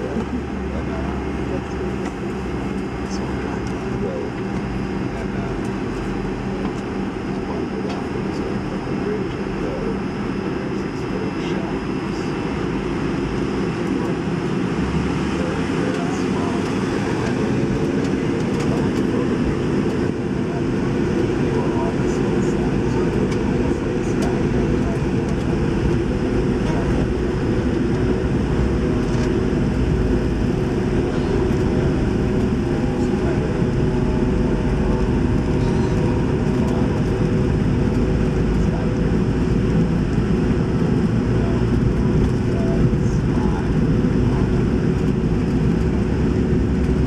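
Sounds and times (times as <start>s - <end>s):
airliner cabin engine drone: 0.0s - 47.0s.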